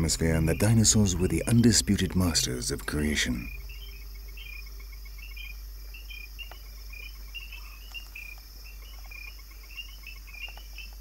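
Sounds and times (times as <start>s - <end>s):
insects chirping: 0.0s - 11.0s
steady high hiss: 0.0s - 11.0s.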